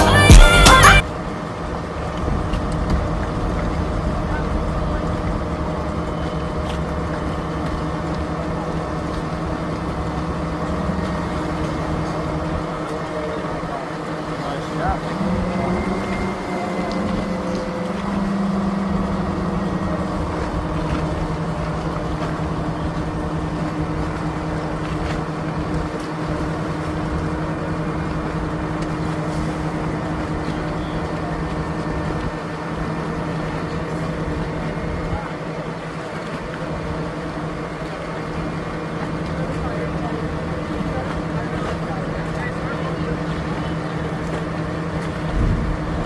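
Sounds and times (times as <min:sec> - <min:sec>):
motorboat engine running: 0:00.0 - 0:46.0
water noise: 0:00.0 - 0:46.0
wind: 0:00.0 - 0:46.0.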